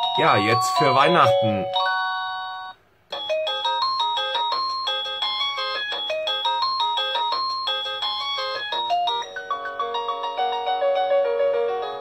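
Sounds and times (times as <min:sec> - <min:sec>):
electronic doorbell chime melody: 0:00.0 - 0:12.0.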